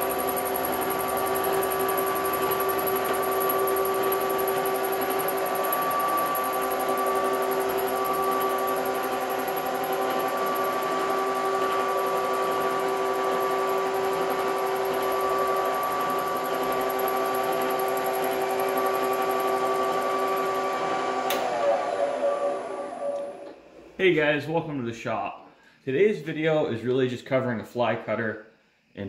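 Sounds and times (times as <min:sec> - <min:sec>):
milling machine hum: 0:00.0 - 0:23.9.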